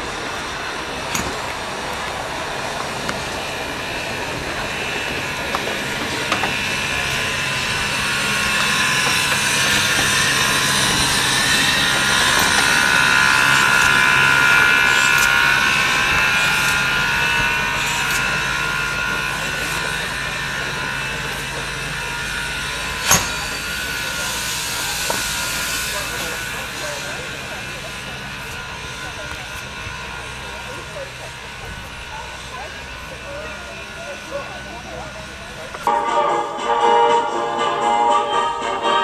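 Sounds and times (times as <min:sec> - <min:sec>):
steam locomotive hissing steam: 0:00.0 - 0:39.0.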